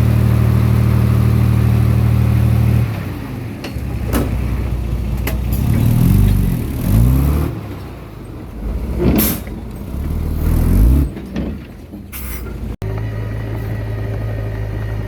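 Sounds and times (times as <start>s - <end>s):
bulldozer diesel engine revving: 0.0s - 11.4s, 12.6s - 15.0s.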